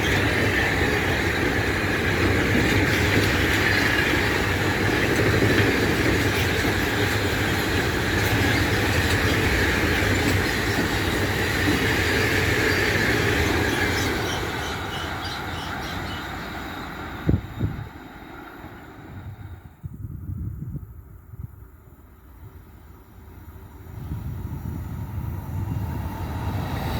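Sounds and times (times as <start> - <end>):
train rolling past: 0.0 - 26.9.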